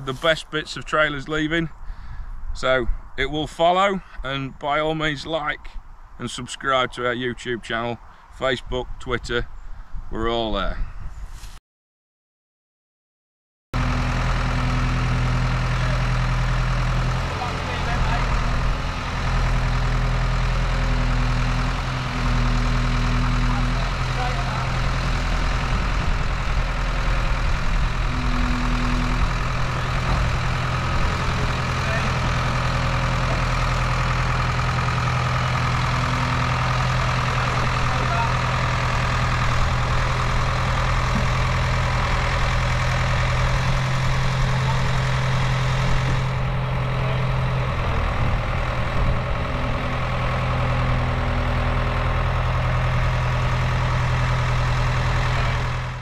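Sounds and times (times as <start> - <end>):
diesel engine running: 0.0 - 9.8, 13.8 - 56.0.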